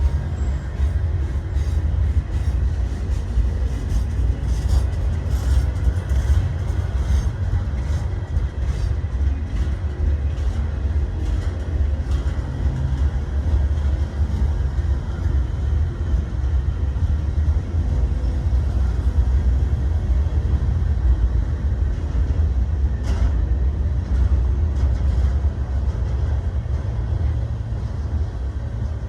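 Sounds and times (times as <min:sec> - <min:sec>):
light clicks of rails: 0:00.0 - 0:29.0
train rumbling on rails: 0:00.0 - 0:29.0.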